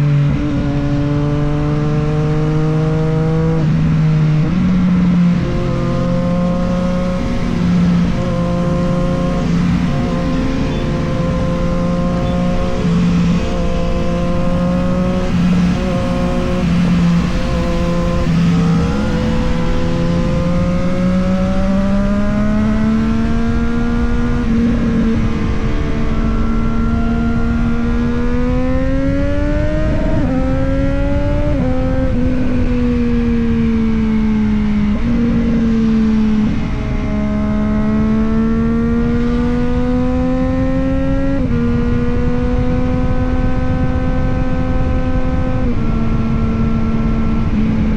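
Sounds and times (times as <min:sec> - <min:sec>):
motorcycle engine accelerating: 0:00.0 - 0:47.9
wind and road noise: 0:00.0 - 0:47.9.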